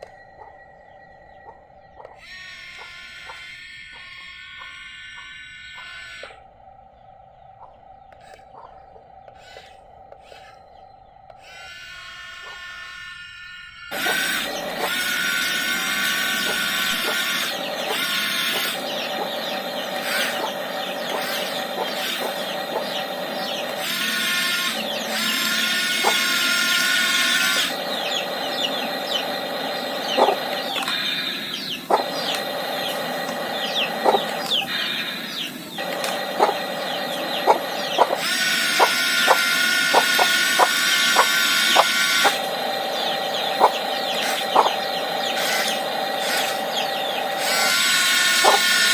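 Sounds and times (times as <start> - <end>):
toy gear motors whining: 2.0 - 6.4, 9.3 - 48.9.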